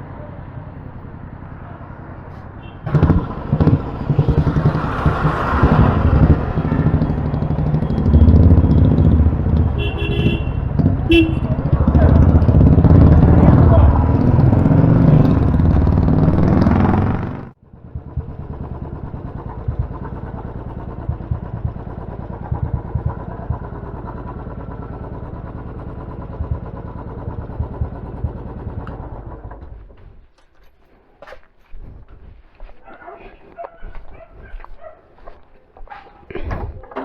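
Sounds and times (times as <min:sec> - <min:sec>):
motorcycle engine running: 0:00.1 - 0:30.0.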